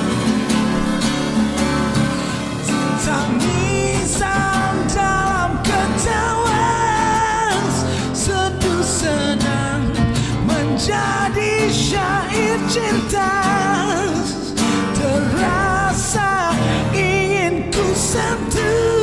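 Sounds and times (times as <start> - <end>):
acoustic guitar: 0.0 - 19.0
person singing with vibrato: 0.0 - 19.0.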